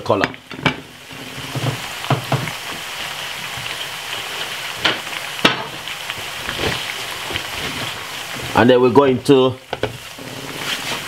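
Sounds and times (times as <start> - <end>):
plantain sizzling in oil: 0.0 - 11.0.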